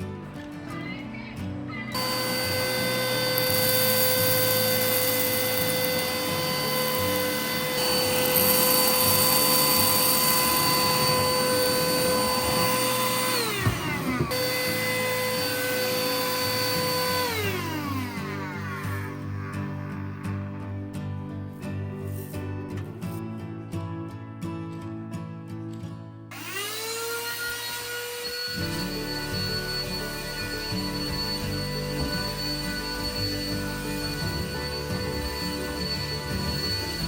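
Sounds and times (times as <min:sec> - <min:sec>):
vacuum cleaner motor whining: 0:02.0 - 0:21.0, 0:26.3 - 0:37.0.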